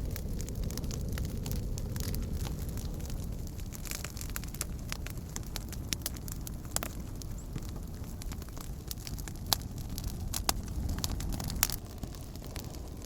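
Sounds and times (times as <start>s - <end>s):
campfire crackling: 0.0s - 13.0s
low rumble: 0.0s - 13.0s.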